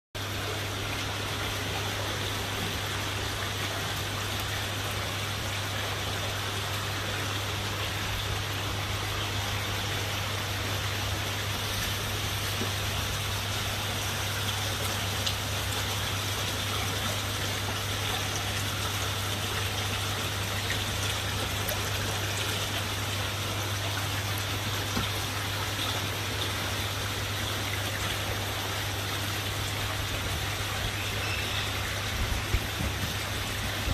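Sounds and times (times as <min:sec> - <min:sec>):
constant low hum: 0:00.2 - 0:33.9
water trickling: 0:00.2 - 0:33.9.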